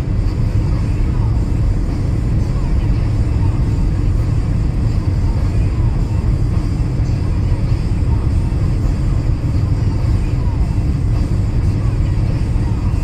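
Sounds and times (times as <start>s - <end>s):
car tyres on wet road: 0.0s - 13.0s.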